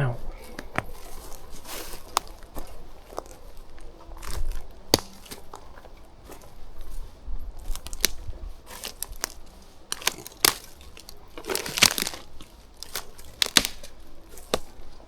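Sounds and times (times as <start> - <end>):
footsteps crunching through undergrowth: 0.0 - 15.0
twigs snapping: 0.2 - 15.0.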